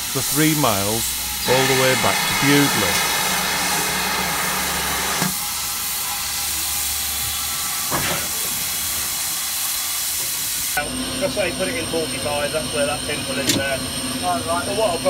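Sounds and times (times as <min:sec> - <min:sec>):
steam hissing: 0:00.0 - 0:14.9.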